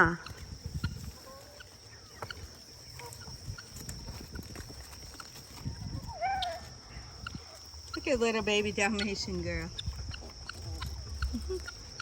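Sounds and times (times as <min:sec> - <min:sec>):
animals chewing grass: 0:00.0 - 0:12.0.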